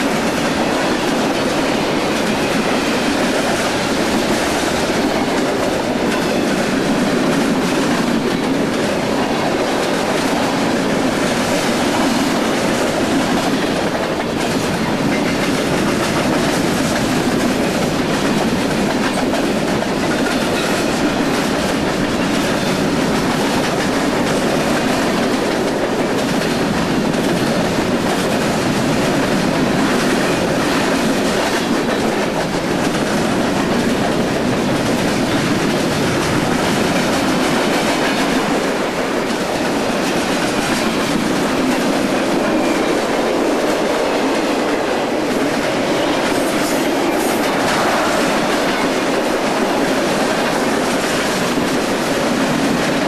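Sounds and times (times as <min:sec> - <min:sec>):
steel wheels running on rails: 0:00.0 - 0:53.0.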